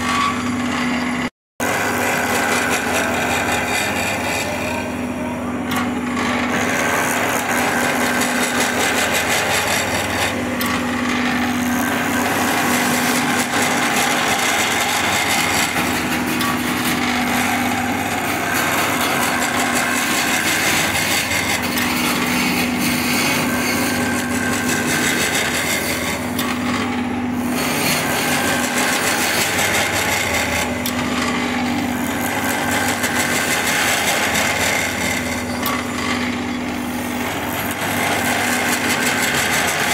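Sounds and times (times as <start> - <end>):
lathe humming: 0.0 - 39.9
tool cutting spinning wood: 0.0 - 39.9.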